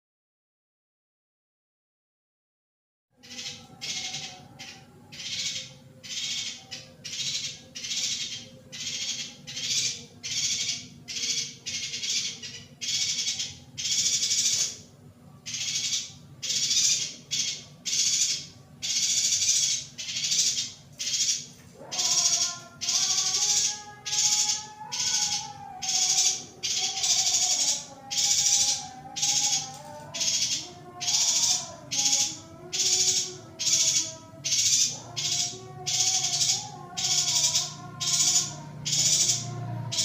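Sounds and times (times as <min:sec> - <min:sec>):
bird chattering calls: 0:03.2 - 0:14.8, 0:15.4 - 0:40.0
faint low hum: 0:03.2 - 0:40.0.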